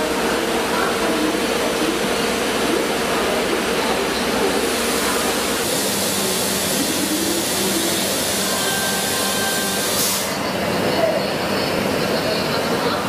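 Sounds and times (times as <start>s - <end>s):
train coach rushing noise: 0.0s - 13.0s.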